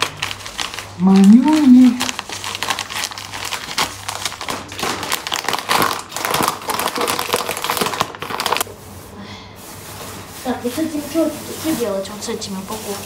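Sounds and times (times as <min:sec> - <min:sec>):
plastic packets crinkling: 0:00.0 - 0:08.8, 0:09.6 - 0:13.0.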